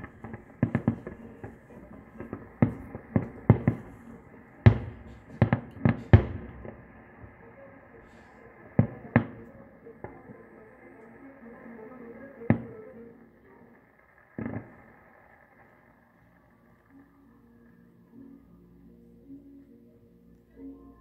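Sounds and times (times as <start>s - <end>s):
fireworks booming: 0.0s - 17.4s.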